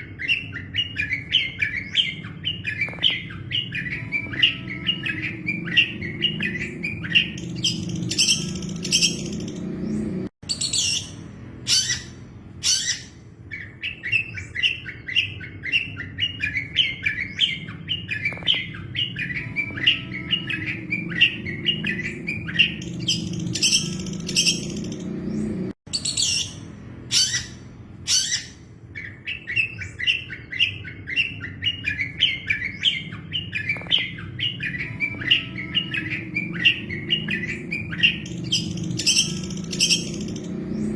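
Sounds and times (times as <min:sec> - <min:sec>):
bird chattering song: 0:00.0 - 0:40.9
harsh bird calls: 0:00.0 - 0:40.9.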